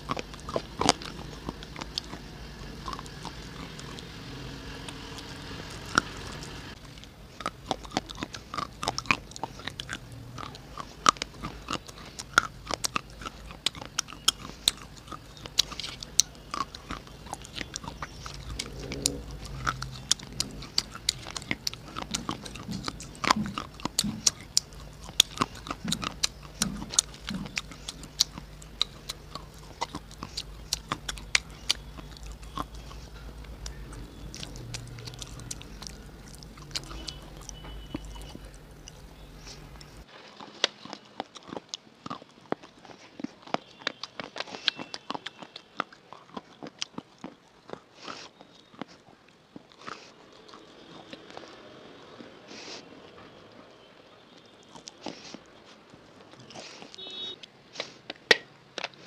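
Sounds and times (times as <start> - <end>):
crunching and chewing: 0.0 - 59.0.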